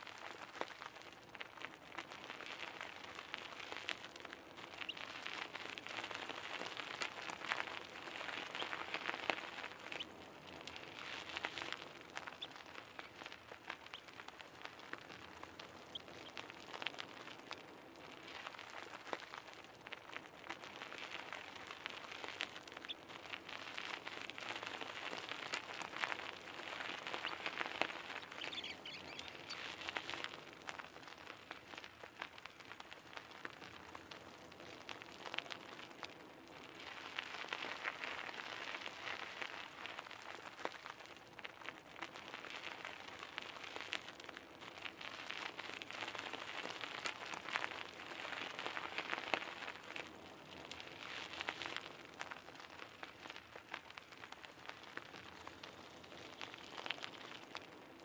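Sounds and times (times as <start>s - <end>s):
bicycle tyres on gravel: 0.0s - 58.0s.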